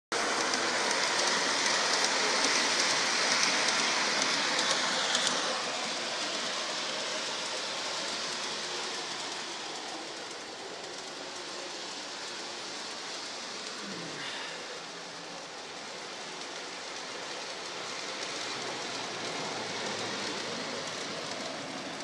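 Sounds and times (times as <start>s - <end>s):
model train running on track: 0.1s - 22.0s
light clicks of wheels: 0.2s - 22.0s.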